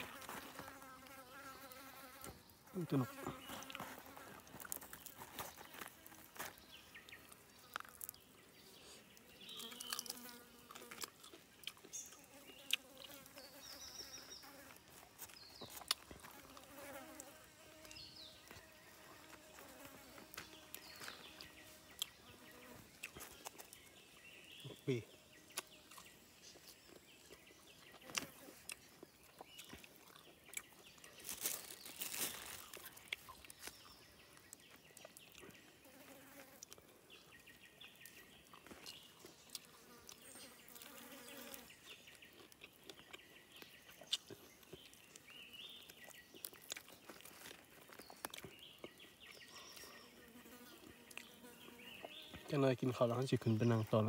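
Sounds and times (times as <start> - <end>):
faint insects buzzing: 0.0 - 54.0
crunching of food being eaten: 3.1 - 13.3, 14.0 - 24.0, 25.1 - 37.0, 37.9 - 52.4.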